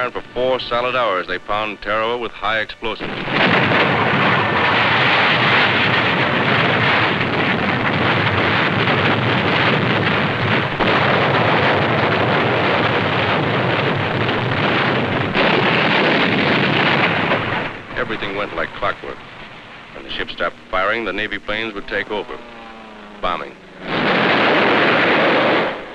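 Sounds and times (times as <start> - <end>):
naval bombardment roar: 0.0 - 25.9.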